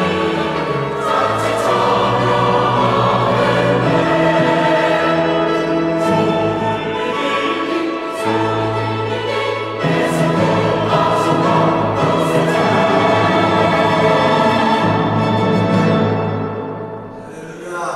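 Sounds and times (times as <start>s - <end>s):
choir singing with orchestra: 0.0s - 17.9s.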